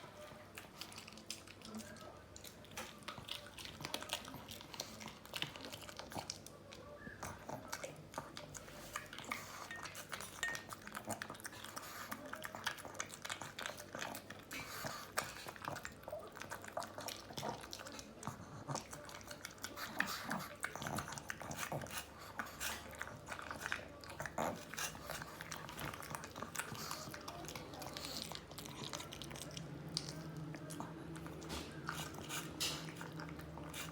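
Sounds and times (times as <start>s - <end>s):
dog chewing and smacking: 0.0s - 33.9s.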